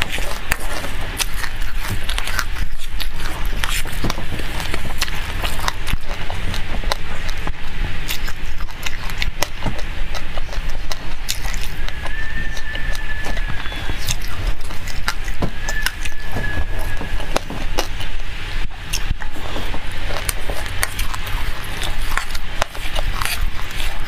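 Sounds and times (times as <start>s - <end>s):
chewing crunchy seeds: 0.0s - 24.0s
steady low hum: 0.0s - 24.0s.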